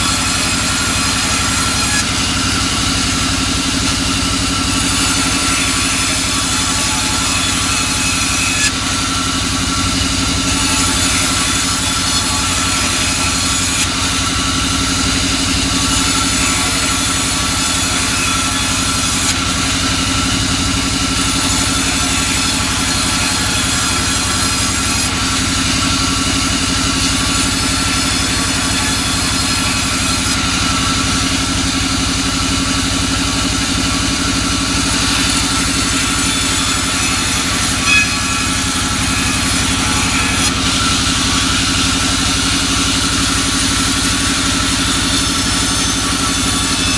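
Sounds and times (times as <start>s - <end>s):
band saw mill hum: 0.0s - 46.9s.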